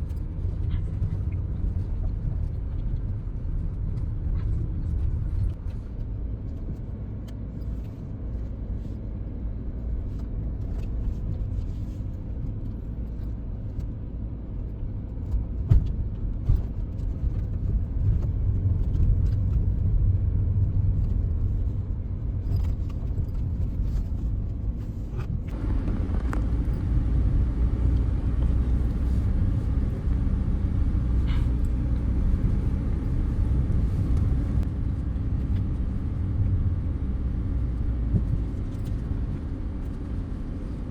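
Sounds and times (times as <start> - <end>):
engine and tyre rumble: 0.0 - 40.9.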